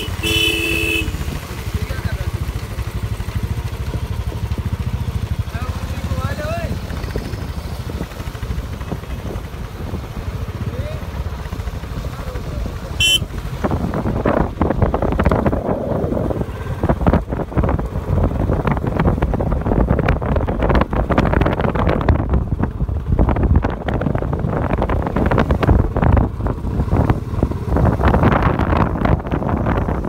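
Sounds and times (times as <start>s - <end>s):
motorcycle engine running: 0.0s - 30.0s
wind buffeting microphone: 3.0s - 30.0s.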